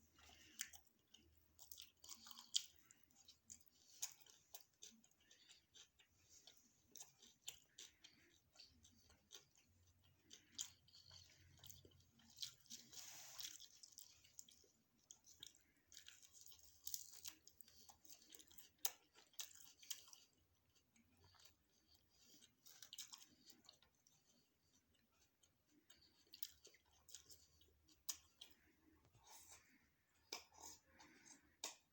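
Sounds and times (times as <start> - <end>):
chewing food: 0.0 - 31.9.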